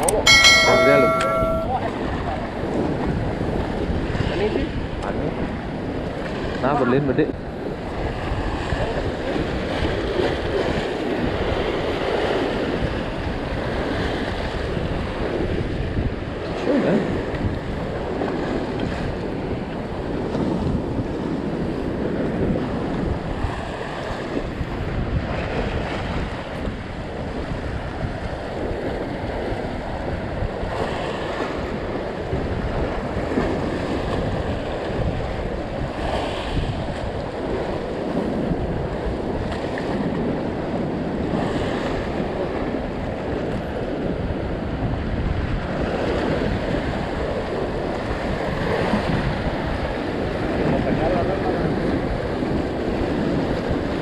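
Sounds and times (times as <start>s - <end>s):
ocean surf breaking on rocks: 0.0s - 54.0s
wind buffeting microphone: 0.0s - 54.0s.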